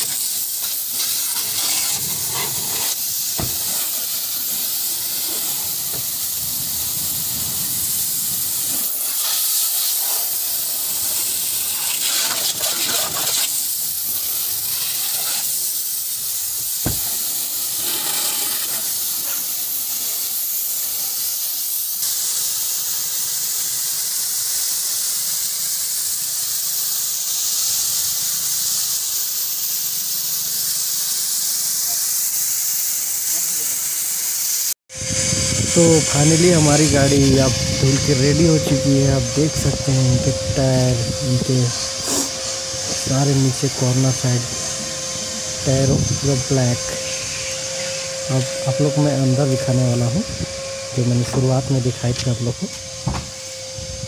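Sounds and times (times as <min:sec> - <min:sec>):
pressure washer spraying water: 0:00.0 - 0:54.0.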